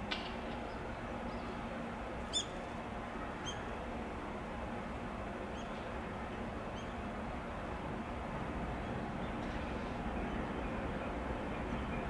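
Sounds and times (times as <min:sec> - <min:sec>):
train approaching with low rumble: 0:00.0 - 0:12.0.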